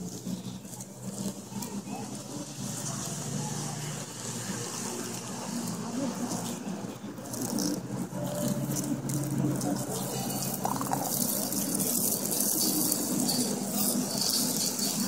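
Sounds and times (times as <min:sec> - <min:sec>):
skate wheels rolling on concrete: 0:00.0 - 0:15.0.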